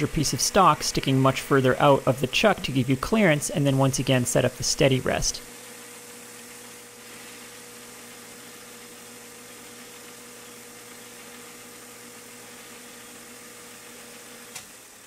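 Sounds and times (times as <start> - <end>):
cutting tool hissing: 0.0 - 5.7, 6.3 - 15.0
metal lathe running: 0.0 - 15.0.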